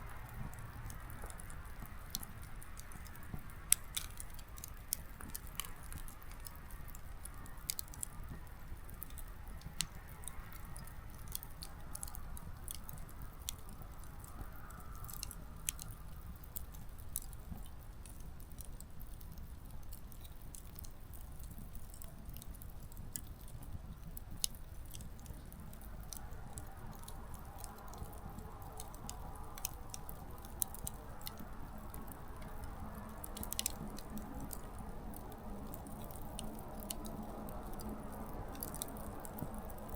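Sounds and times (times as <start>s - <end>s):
campfire crackling and popping: 0.0s - 39.9s
flame rumble: 0.0s - 39.9s.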